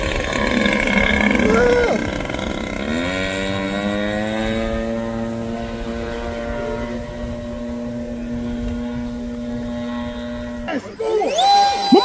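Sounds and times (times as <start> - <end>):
model airplane engine running: 0.0 - 12.0.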